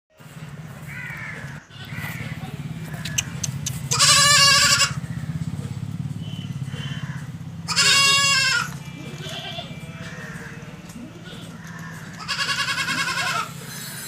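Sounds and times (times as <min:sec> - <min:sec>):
goat bleating: 0:00.9 - 0:05.5, 0:06.5 - 0:13.7.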